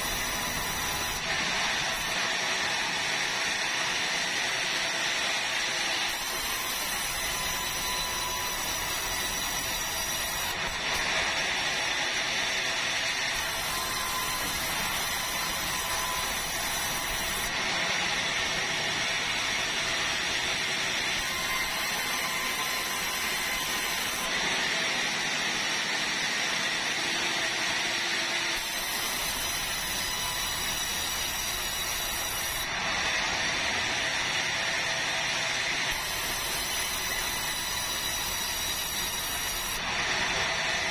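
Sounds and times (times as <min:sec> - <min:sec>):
band saw cutting timber: 0:00.0 - 0:40.9.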